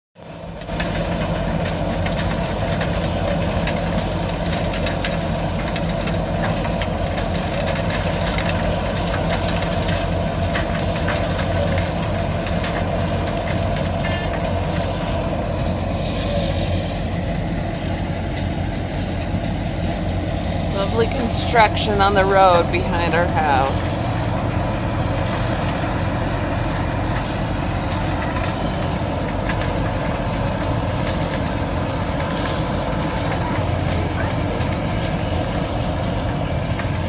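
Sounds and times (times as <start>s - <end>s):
diesel engine drone: 0.2s - 37.0s.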